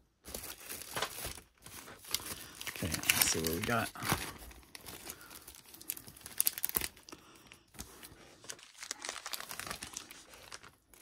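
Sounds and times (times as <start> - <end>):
plastic envelope tearing: 0.2 - 7.1, 7.8 - 11.0
plastic crackling: 0.2 - 11.0
plastic rustling: 0.2 - 11.0.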